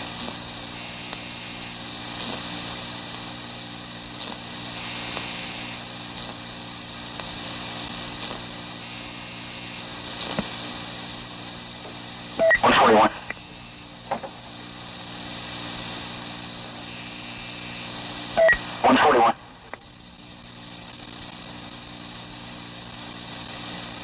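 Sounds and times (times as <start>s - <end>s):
electrical hum and hiss: 0.0s - 24.0s.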